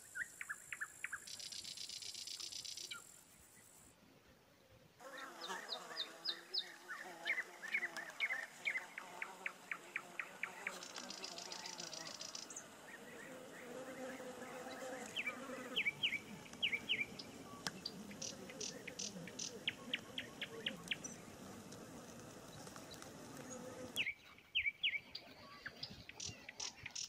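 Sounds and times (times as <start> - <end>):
small birds chirping: 0.0 - 3.9, 5.1 - 27.0
faint outdoor background: 0.0 - 27.0.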